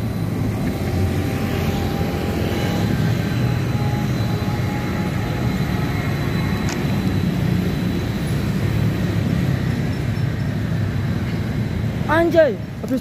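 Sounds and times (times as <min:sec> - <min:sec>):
tram running gear rumble: 0:00.0 - 0:13.0.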